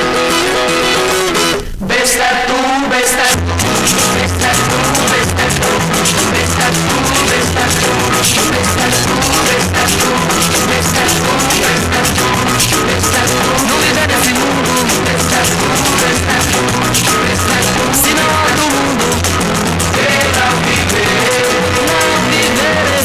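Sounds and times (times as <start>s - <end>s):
rock band playing: 3.4s - 23.0s.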